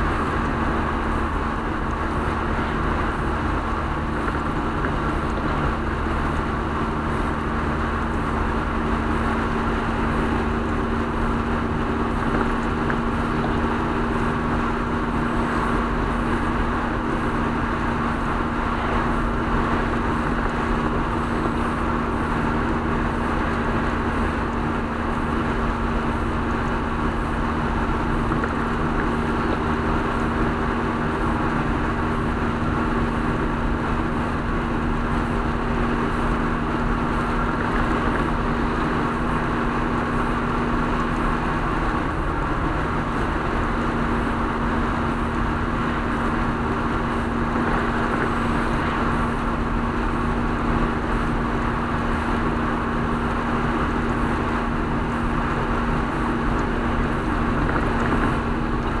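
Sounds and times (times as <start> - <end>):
low engine drone: 0.0 - 59.0
road noise inside car: 0.0 - 59.0.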